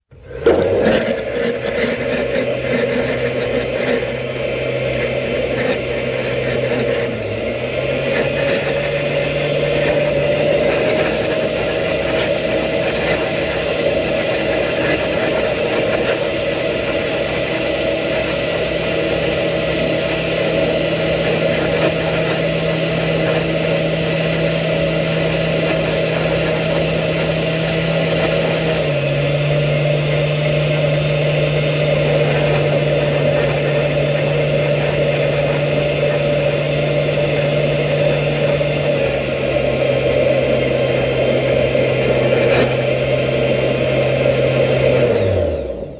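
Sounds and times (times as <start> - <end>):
electric blender running: 0.0 - 45.9.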